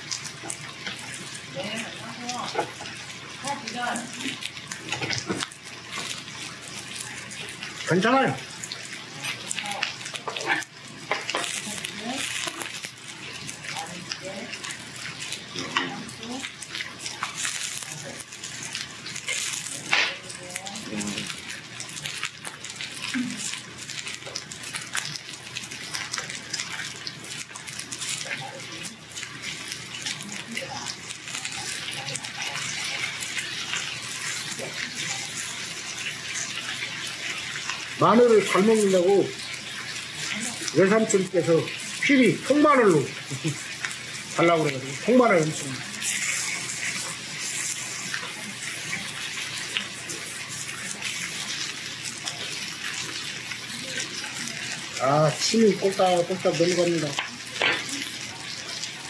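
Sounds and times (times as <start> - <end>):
meat sizzling on a grill: 0.0 - 59.0
small crackles: 0.0 - 59.0.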